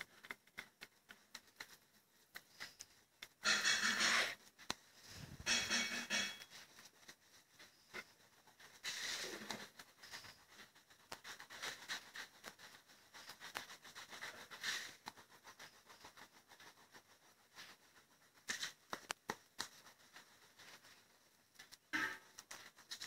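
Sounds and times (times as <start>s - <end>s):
pencil scribbling on paper: 0.0s - 23.0s.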